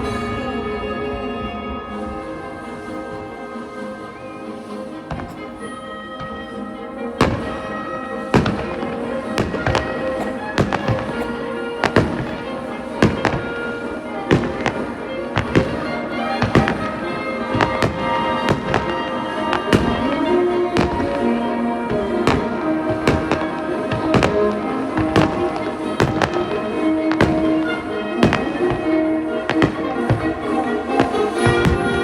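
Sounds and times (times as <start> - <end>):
loud music: 0.0 - 32.0
fireworks bursting: 1.9 - 32.0.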